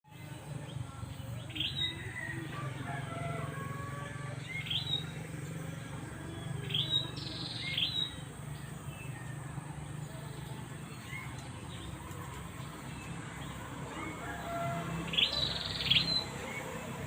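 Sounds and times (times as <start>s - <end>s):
birds chirping and calling: 0.1s - 17.0s.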